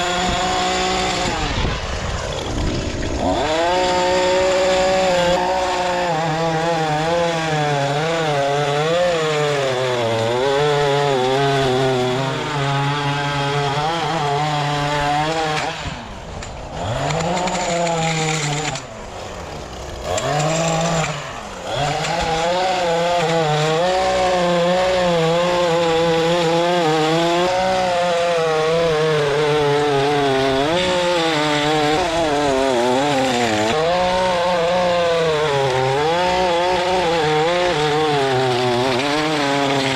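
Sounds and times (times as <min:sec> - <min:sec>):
small petrol engine revving: 0:00.0 - 0:16.1, 0:16.8 - 0:39.9.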